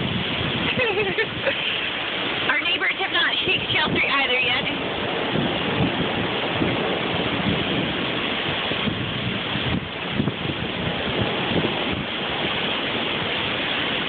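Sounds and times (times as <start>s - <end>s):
storm wind buffeting microphone: 0.0s - 14.0s.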